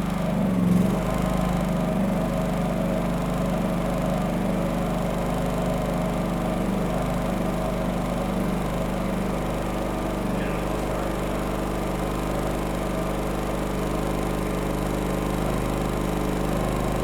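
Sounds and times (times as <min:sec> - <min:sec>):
generator engine humming: 0:00.0 - 0:17.0.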